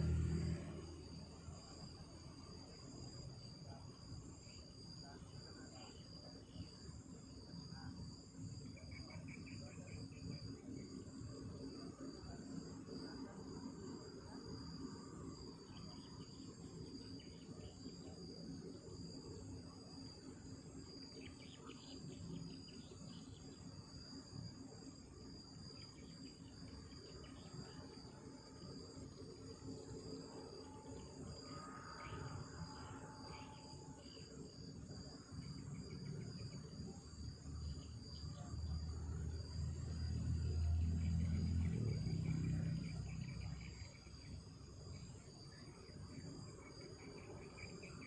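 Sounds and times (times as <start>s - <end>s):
crickets trilling: 0.0s - 48.0s.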